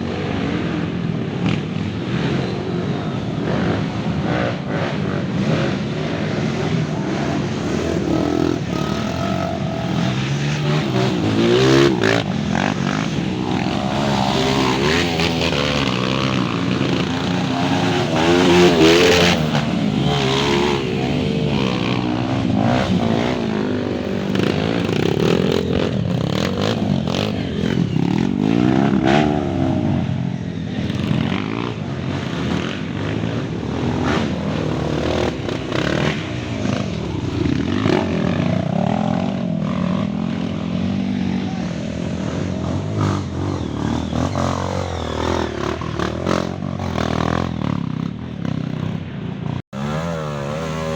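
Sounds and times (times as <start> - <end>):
motorcycles revving: 0.0 - 50.9.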